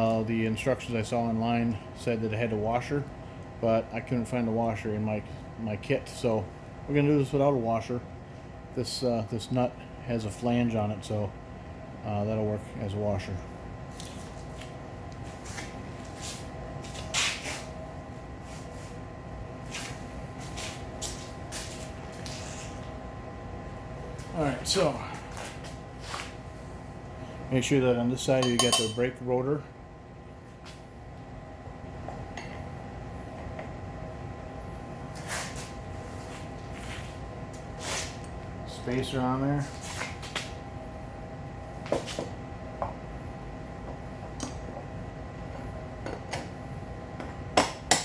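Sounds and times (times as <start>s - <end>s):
steady background hum: 0.0s - 48.0s.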